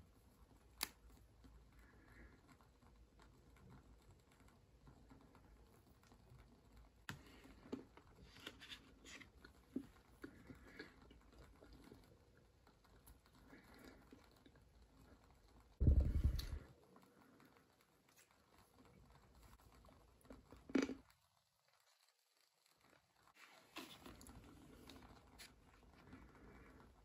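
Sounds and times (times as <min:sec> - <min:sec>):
faint clicks and taps: 0:00.0 - 0:27.0.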